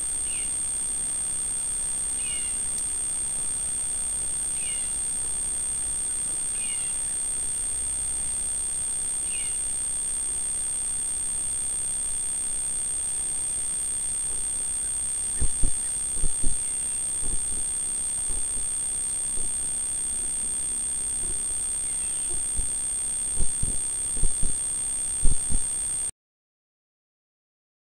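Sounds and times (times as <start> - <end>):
high electronic whine: 0.0 - 26.1.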